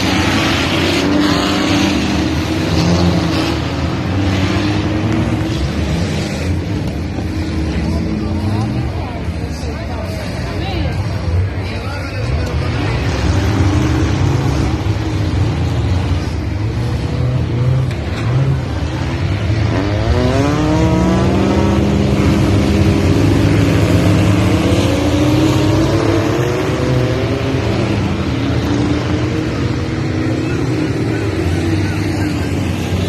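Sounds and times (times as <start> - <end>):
racing car engines rumbling: 0.0 - 33.0.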